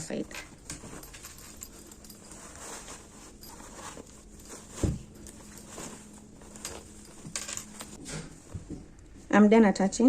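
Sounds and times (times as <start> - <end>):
fabric bag rustling: 0.2 - 8.8.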